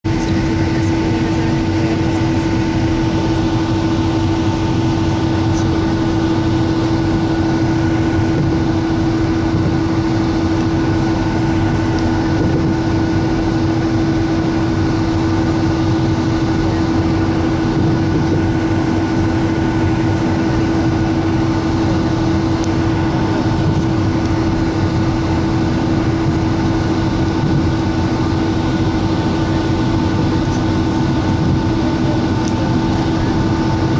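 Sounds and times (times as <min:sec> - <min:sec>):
jet airliner engines humming: 0:00.0 - 0:33.9.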